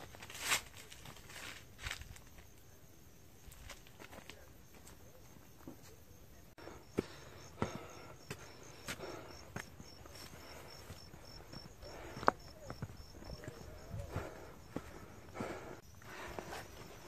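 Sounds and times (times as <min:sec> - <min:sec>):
footsteps on dirt trail: 0:00.0 - 0:02.5, 0:03.4 - 0:05.8, 0:06.6 - 0:17.0
insect chirping: 0:00.0 - 0:17.0.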